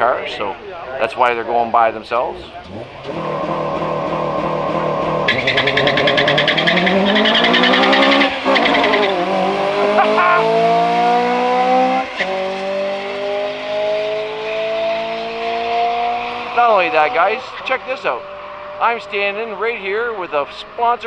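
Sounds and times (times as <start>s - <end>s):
car accelerating at full throttle: 2.3s - 21.0s.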